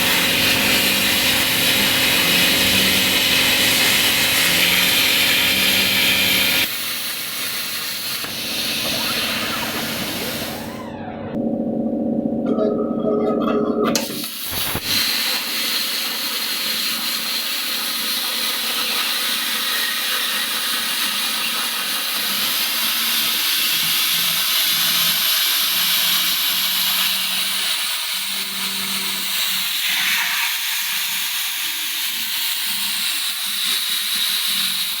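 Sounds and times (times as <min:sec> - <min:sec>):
plasma cutter arc hissing: 0:00.0 - 0:10.8, 0:14.0 - 0:35.0.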